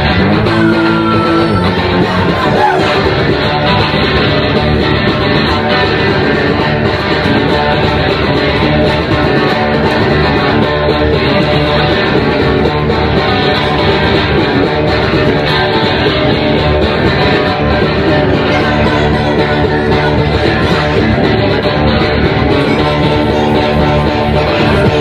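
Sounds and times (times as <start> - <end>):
bass guitar: 0.0 - 25.0
distorted electric guitars: 0.0 - 25.0
drums: 0.0 - 25.0.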